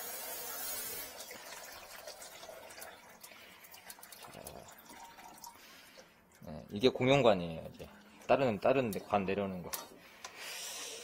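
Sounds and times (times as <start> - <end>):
water trickling down sink drain: 0.1 - 9.7.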